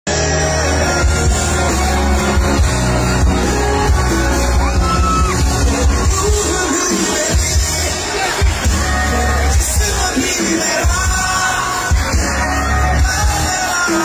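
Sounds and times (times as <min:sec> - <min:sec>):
live concert music: 0:00.0 - 0:14.0
crowd shouting: 0:00.1 - 0:14.0
person singing: 0:00.1 - 0:14.0.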